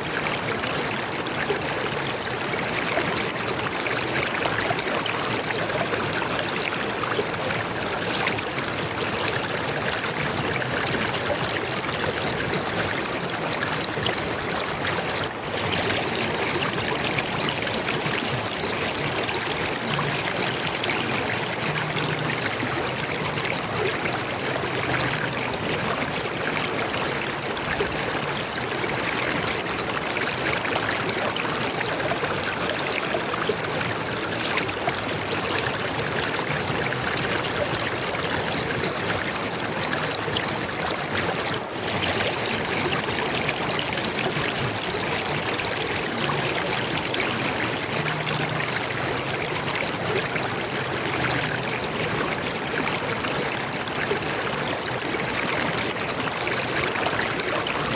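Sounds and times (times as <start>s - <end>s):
flowing water: 0.0s - 57.9s.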